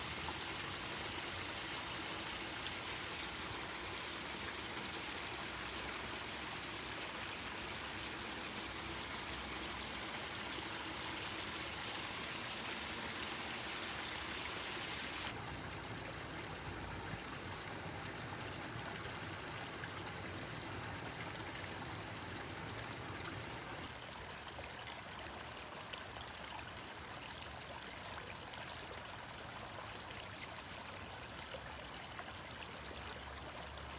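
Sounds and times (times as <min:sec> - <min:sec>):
stream babbling: 0:00.0 - 0:33.9.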